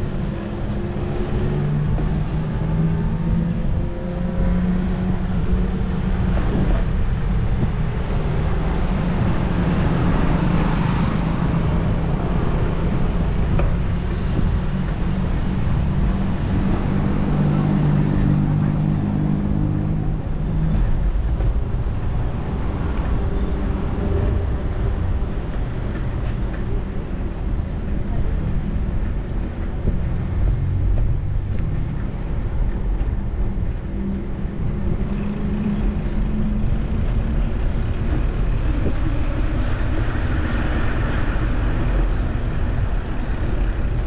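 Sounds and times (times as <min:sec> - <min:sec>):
city street traffic rumble: 0:00.0 - 0:44.0.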